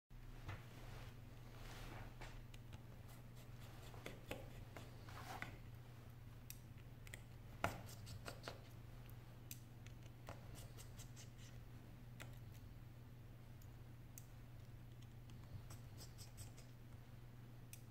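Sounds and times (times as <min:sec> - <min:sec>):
faint low hum: 0:00.2 - 0:17.9.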